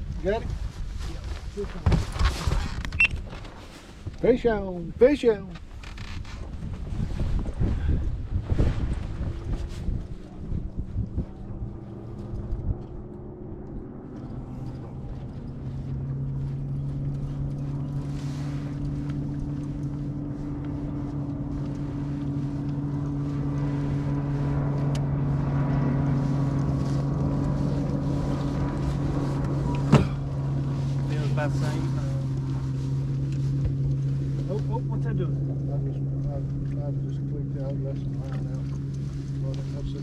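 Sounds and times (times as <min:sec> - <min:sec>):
wind on microphone: 0:00.0 - 0:04.2, 0:05.7 - 0:34.8
boat motor running: 0:05.6 - 0:40.0.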